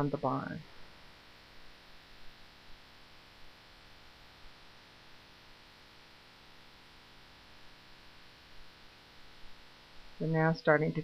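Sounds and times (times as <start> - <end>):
faint hiss and hum: 0.0 - 11.0.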